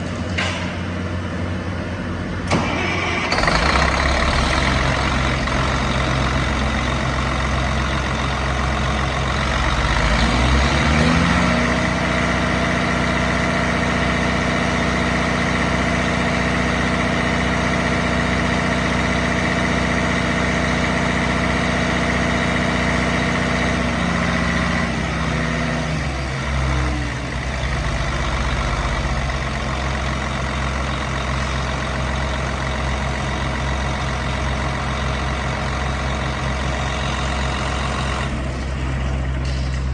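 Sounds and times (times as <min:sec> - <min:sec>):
diesel excavator engine starting and idling: 0:00.0 - 0:39.9.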